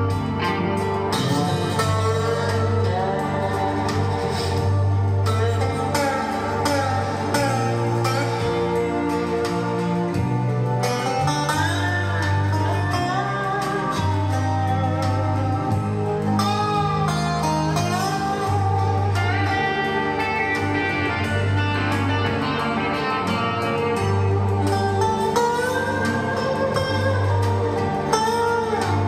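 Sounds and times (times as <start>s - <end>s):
guitar music with deep bass: 0.0s - 29.0s.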